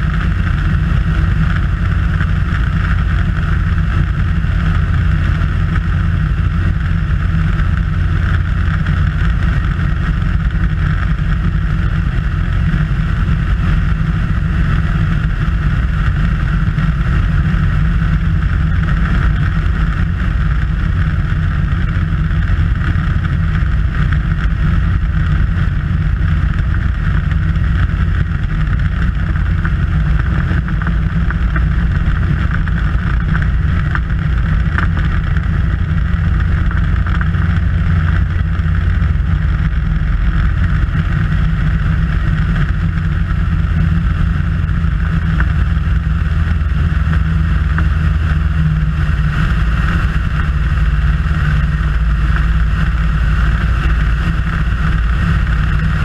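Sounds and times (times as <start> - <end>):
airflow rushing over microphone: 0.0 - 56.0
airplane engine and propeller: 0.0 - 56.0.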